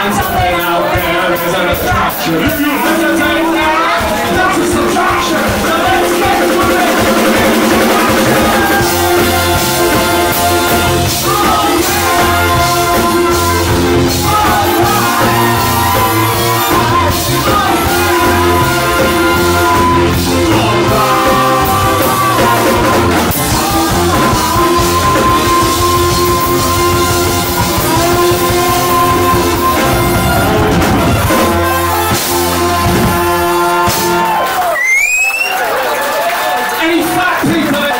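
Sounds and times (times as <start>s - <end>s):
person singing: 0.0s - 34.6s
live ska band playing: 0.0s - 37.9s.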